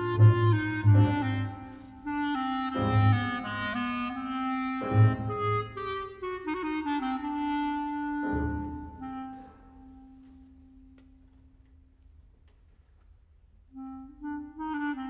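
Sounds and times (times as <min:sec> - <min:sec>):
solo clarinet: 0:00.0 - 0:11.8, 0:13.6 - 0:15.0
military wind band: 0:00.0 - 0:12.0, 0:13.5 - 0:15.0.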